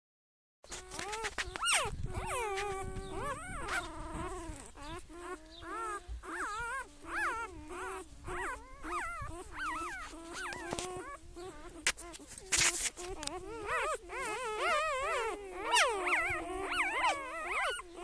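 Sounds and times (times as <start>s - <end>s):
pet whining: 0.7s - 18.0s.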